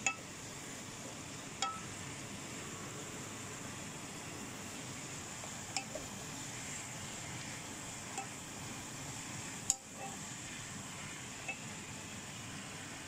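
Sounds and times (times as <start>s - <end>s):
steady frying hiss: 0.0s - 13.0s.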